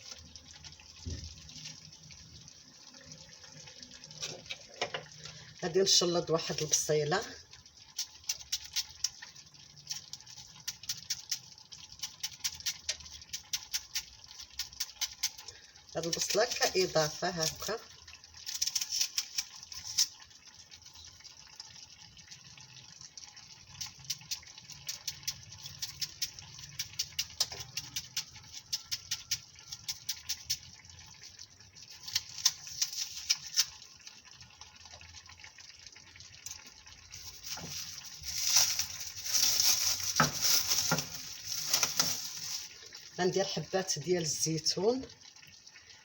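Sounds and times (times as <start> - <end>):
hissing spluttering sizzle: 0.0 - 46.0.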